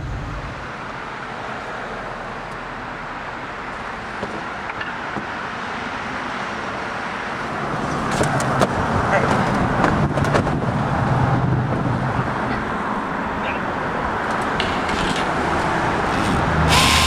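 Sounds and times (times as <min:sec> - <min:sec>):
cars passing on road: 0:00.0 - 0:17.0.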